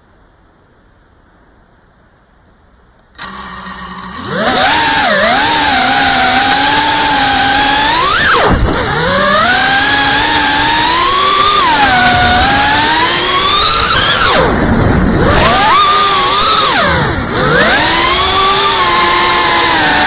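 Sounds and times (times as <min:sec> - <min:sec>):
quadcopter motors whining: 0:03.2 - 0:20.0.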